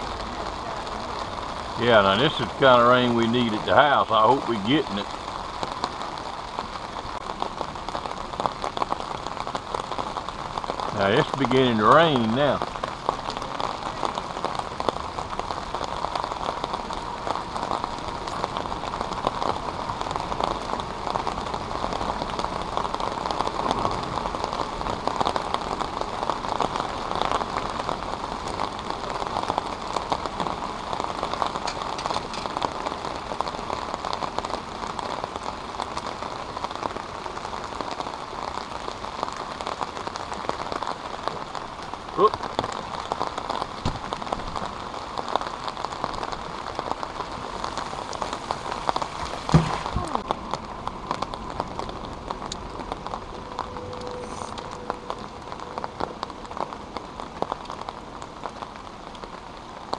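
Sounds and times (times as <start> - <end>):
rain pattering on water: 0.0 - 59.9.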